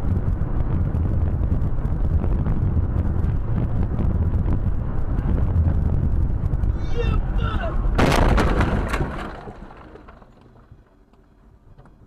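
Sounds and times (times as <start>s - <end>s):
wind buffeting microphone: 0.0s - 9.7s
car road and engine rumble: 0.0s - 12.0s.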